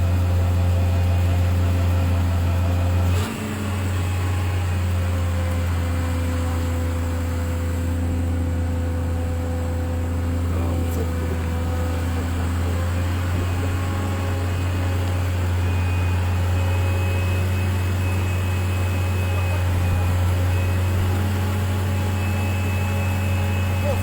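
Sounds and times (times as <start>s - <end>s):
low machine hum: 0.0s - 24.0s
faint high whine: 3.9s - 24.0s.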